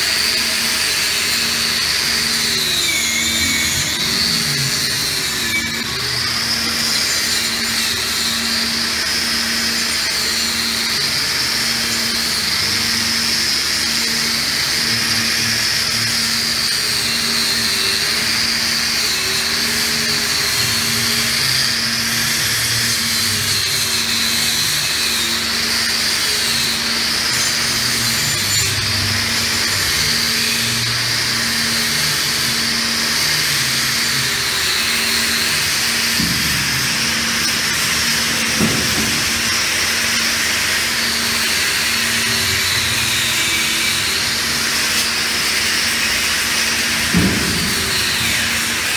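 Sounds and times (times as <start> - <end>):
angle grinder whining on steel: 0.0 - 48.9.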